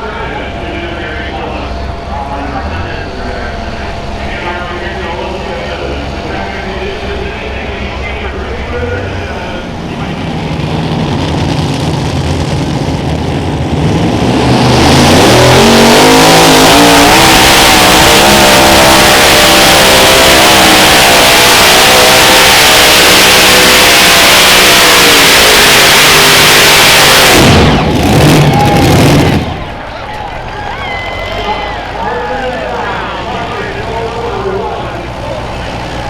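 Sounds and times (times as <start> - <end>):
pulling tractor engines revving: 0.0 - 36.0.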